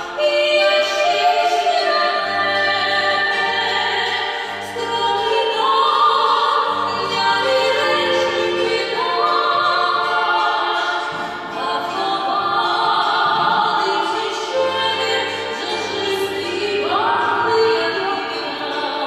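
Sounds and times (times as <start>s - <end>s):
plucked bandura: 0.0s - 19.0s
woman singing operatically: 0.0s - 19.0s.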